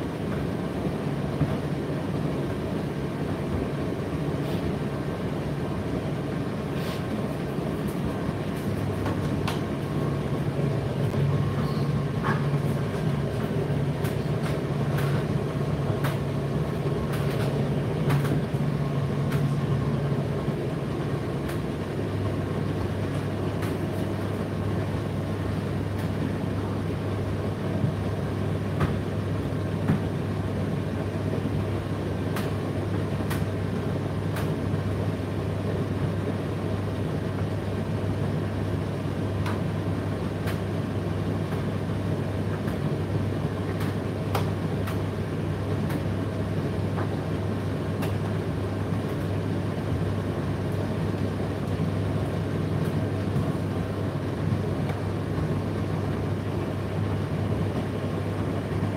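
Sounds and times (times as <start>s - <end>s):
tumble dryer humming: 0.0s - 58.9s.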